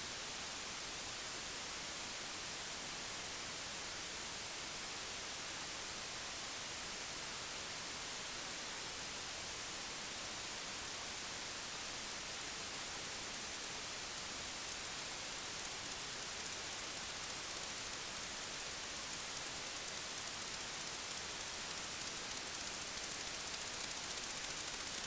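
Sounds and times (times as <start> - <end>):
steady static hiss: 0.0 - 25.0.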